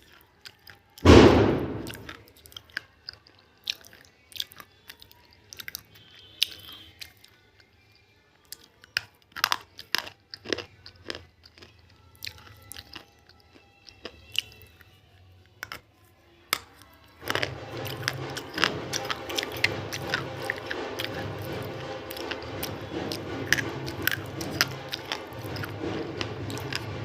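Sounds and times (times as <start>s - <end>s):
crunchy food chewing: 0.0s - 1.0s, 2.3s - 25.8s, 26.5s - 26.9s.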